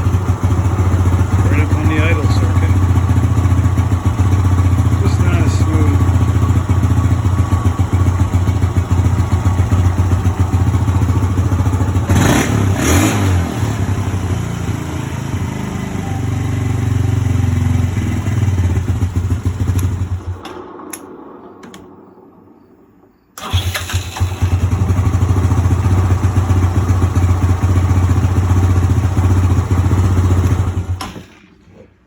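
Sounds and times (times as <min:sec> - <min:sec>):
atv engine fast uneven idle: 0:00.0 - 0:20.0, 0:23.4 - 0:31.0.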